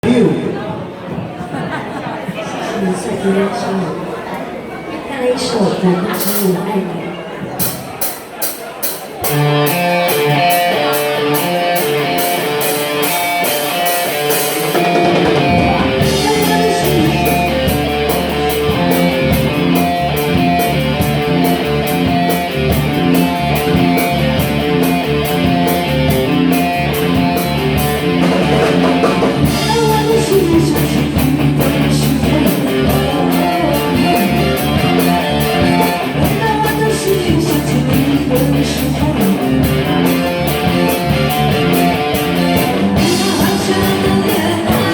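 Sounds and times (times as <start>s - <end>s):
drum kit beat: 7.6s - 44.9s
instrumental music with guitar: 7.6s - 44.9s.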